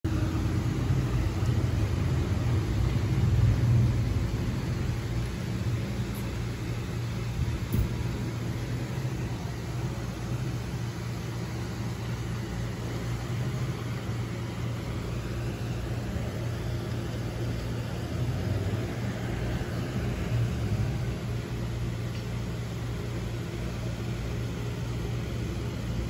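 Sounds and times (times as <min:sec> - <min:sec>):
low mechanical hum and rumble: 0:00.0 - 0:26.0.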